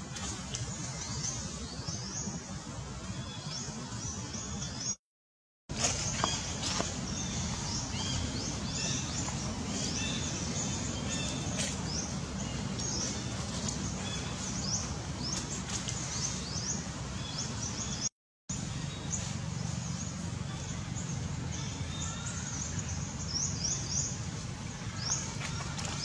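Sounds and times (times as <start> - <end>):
low outdoor rumble: 0.0 - 4.9, 5.7 - 26.0
birds chirping: 0.0 - 5.0, 5.7 - 26.0.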